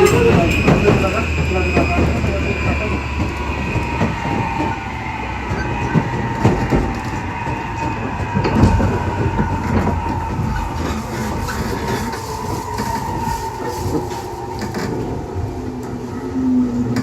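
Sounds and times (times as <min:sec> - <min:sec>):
wheels clicking over rail joints: 0:00.0 - 0:16.1
train rumble: 0:00.0 - 0:17.0.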